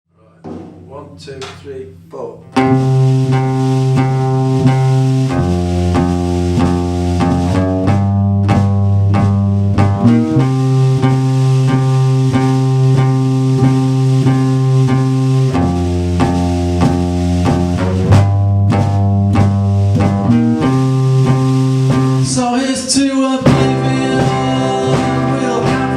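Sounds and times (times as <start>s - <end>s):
bass guitar: 0.2s - 25.9s
guitar chords: 0.3s - 25.9s
drum kit beat: 0.4s - 25.9s.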